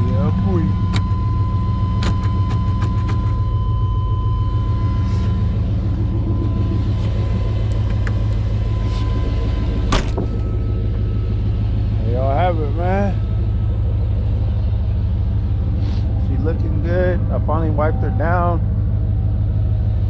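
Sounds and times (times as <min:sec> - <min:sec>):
engine idling deep rumble: 0:00.0 - 0:20.0.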